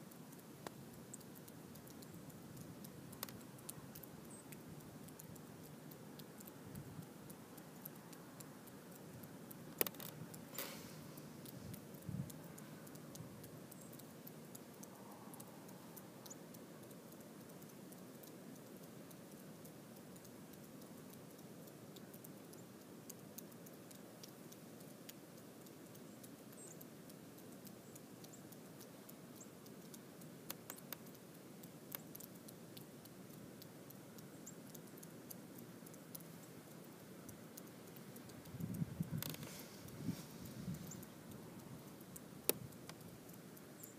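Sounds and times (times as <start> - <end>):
faint steady hiss: 0.0 - 43.9
light ticks: 0.0 - 43.9
sharp clicks: 0.3 - 19.5, 20.2 - 39.8, 40.7 - 43.9.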